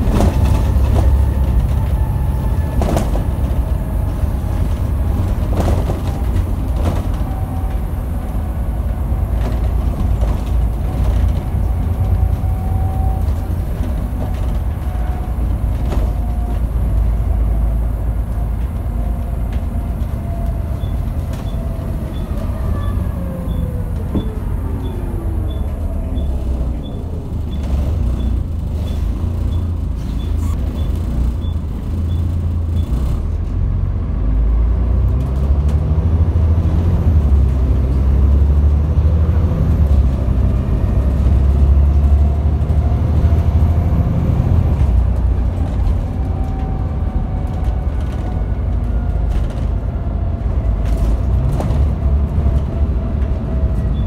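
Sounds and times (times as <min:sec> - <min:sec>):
bus engine rumble and whine: 0:00.0 - 0:54.0.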